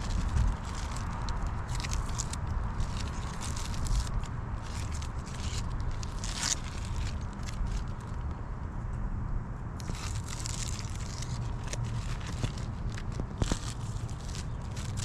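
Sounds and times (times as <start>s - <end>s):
scraping and crackling: 0.0s - 8.3s, 9.8s - 15.0s.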